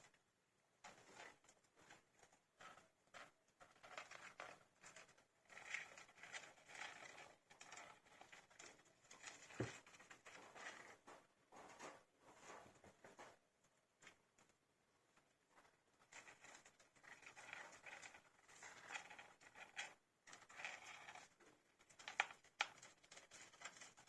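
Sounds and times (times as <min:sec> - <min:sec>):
hamster pups rustling: 0:00.8 - 0:24.0.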